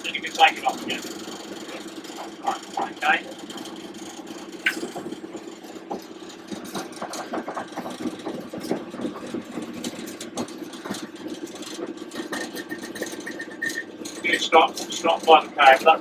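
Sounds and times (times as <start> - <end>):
diesel locomotive engine humming: 0.0 - 16.0.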